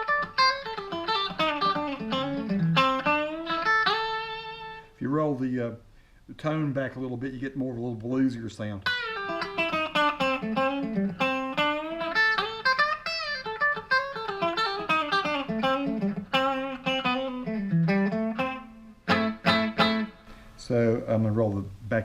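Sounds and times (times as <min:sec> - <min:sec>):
electric guitar blues lead: 0:00.0 - 0:05.4, 0:06.9 - 0:20.8.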